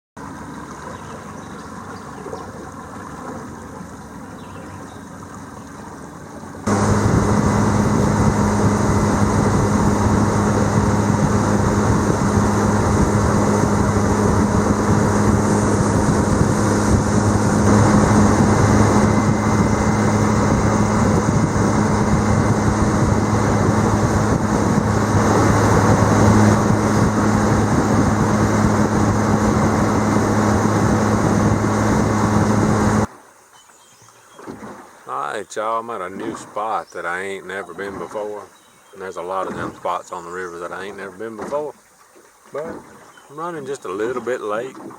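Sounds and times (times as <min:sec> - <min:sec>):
boat outboard motor running: 0:00.2 - 0:33.2, 0:34.3 - 0:44.9.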